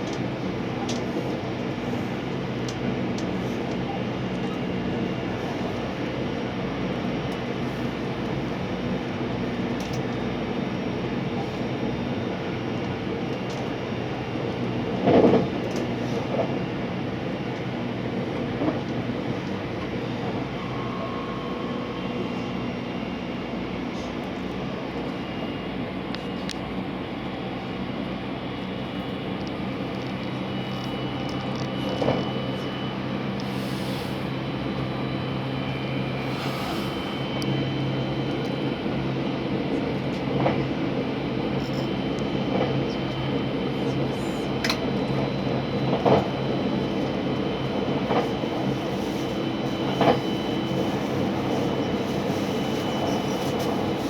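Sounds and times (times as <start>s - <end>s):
train rumble and hum: 0.0s - 54.0s.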